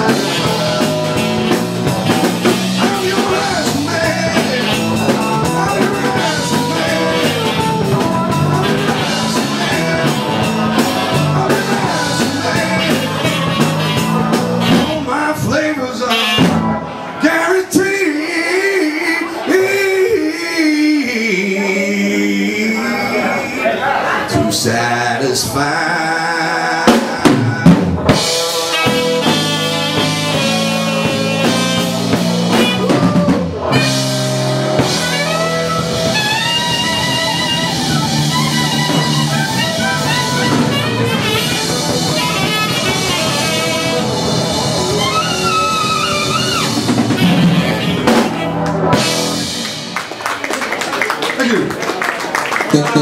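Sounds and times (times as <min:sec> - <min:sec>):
live dance band playing: 0:00.0 - 0:20.4, 0:26.8 - 0:53.0.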